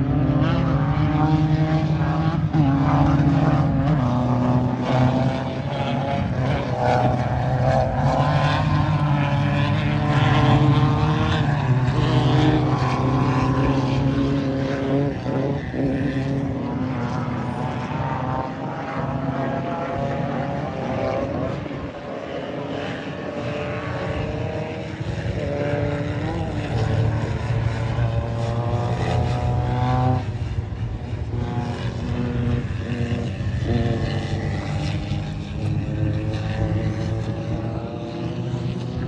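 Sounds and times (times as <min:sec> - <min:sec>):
race car engine revving: 0:00.0 - 0:39.0.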